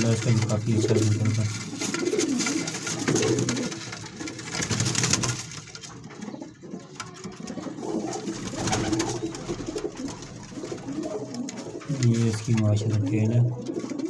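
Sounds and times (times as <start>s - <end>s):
pigeons cooing: 0.0s - 14.0s
rustling: 0.0s - 14.0s.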